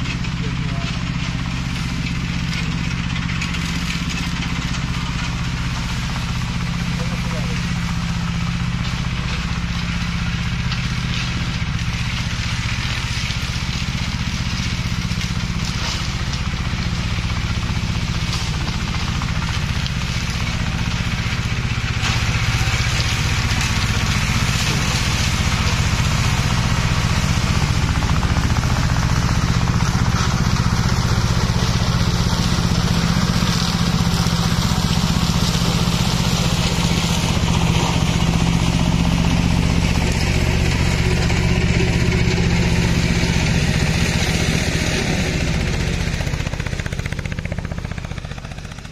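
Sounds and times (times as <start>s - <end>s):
mower engine running: 0.0s - 48.9s.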